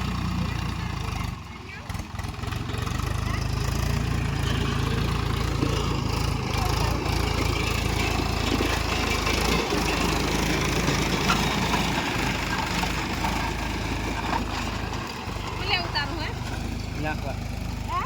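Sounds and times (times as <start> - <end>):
rough noisy clatter: 0.0 - 18.0
tractor engine droning: 0.0 - 18.0.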